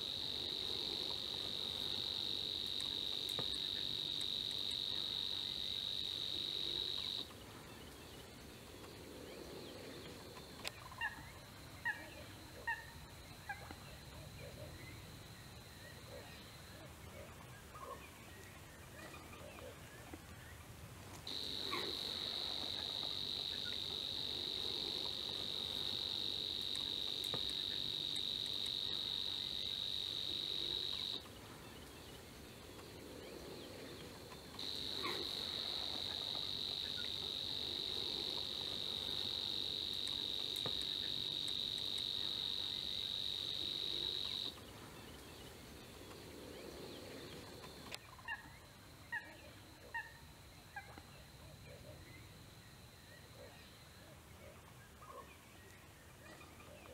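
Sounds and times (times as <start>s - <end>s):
cricket buzzing trill: 0.0s - 17.0s, 21.2s - 54.9s.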